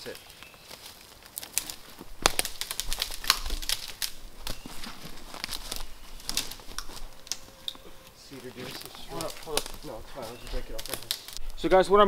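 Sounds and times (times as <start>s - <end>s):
dry twigs crackling and snapping: 0.0s - 11.9s.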